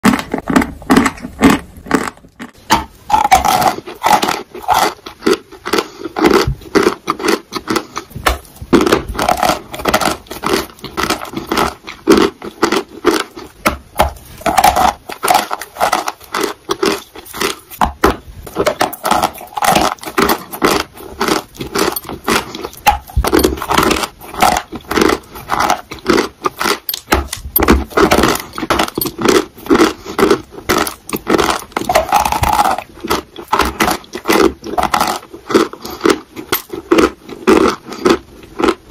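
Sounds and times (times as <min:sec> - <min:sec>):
chalk crunching as chewed: 0:00.0 - 0:38.9.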